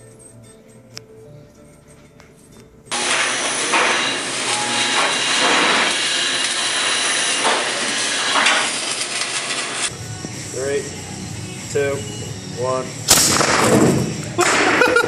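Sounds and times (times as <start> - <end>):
welding arc crackling and hissing: 2.9 - 15.0.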